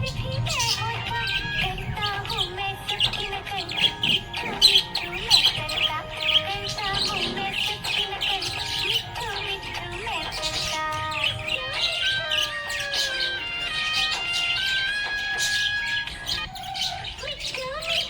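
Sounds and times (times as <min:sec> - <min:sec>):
background music with held notes: 0:00.0 - 0:18.0
budgerigars chirping and warbling: 0:00.0 - 0:18.0.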